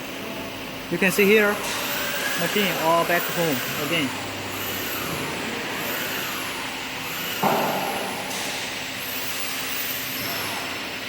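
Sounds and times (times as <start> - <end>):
steady machine hum: 0.0 - 11.0
motor whines falling in pitch: 1.6 - 11.0.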